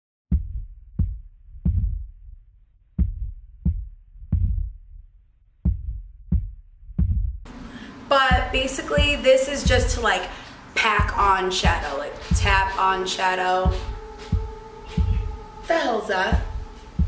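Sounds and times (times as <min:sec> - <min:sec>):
heartbeat thumps: 0:00.3 - 0:02.4, 0:03.0 - 0:05.0, 0:05.6 - 0:07.6, 0:08.2 - 0:17.0
music: 0:00.3 - 0:07.5, 0:08.1 - 0:17.0.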